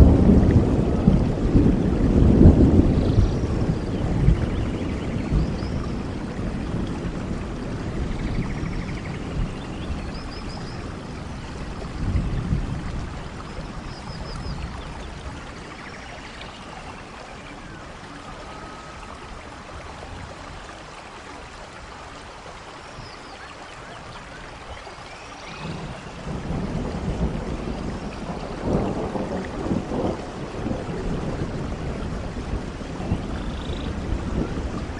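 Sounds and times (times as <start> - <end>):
rolling thunder: 0.0 - 18.8, 25.5 - 34.9
steady rain: 0.0 - 34.9.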